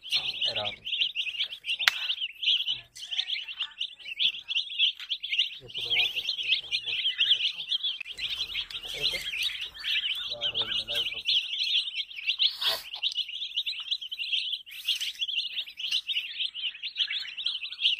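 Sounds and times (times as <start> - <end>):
baby chicks peeping: 0.0 - 17.9.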